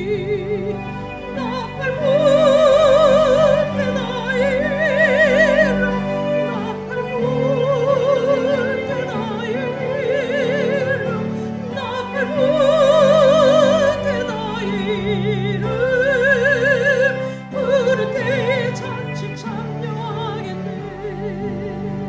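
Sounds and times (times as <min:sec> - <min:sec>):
instrumental accompaniment: 0:00.0 - 0:22.0
soprano singing a hymn: 0:00.0 - 0:22.0.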